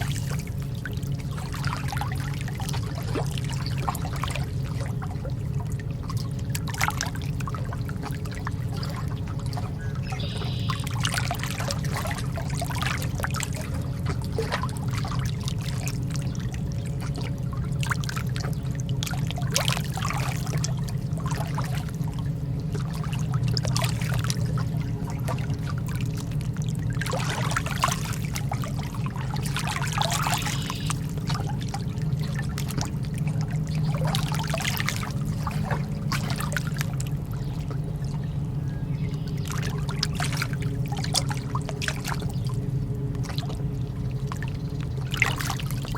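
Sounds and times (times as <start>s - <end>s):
lake water lapping: 0.0s - 45.9s
small water splashes: 0.0s - 45.9s
steady low hum: 0.0s - 45.9s.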